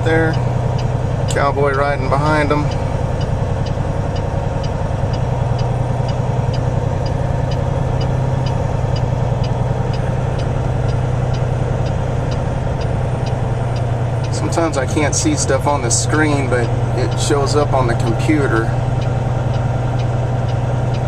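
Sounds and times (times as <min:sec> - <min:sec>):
diesel engine idling: 0:00.0 - 0:21.0
light ticking: 0:00.0 - 0:21.0.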